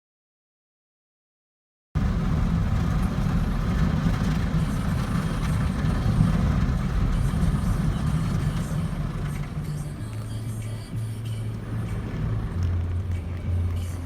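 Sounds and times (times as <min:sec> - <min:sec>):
car wash rumble: 0:02.0 - 0:14.0.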